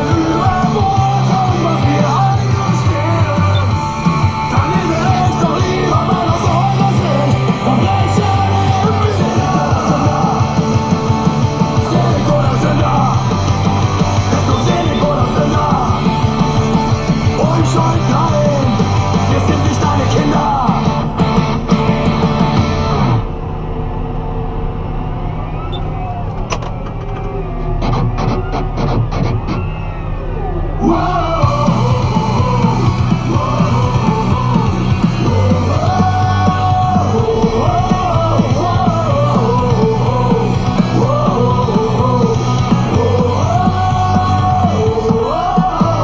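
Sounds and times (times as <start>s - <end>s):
rock music with sung vocals: 0.0s - 46.0s
tractor engine drone: 0.0s - 46.0s.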